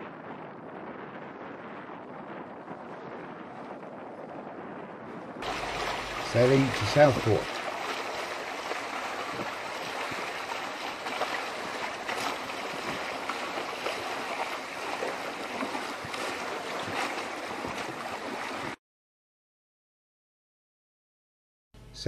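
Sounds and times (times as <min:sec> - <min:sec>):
water rushing along boat hull: 0:00.0 - 0:18.8.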